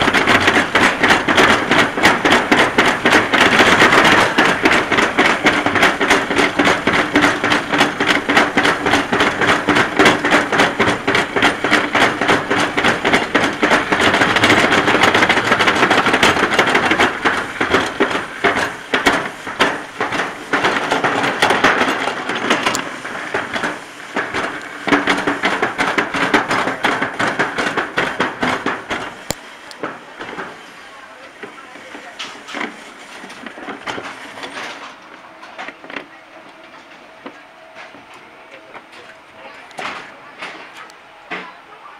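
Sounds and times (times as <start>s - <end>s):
sled wheels clattering on track: 0.0s - 41.9s.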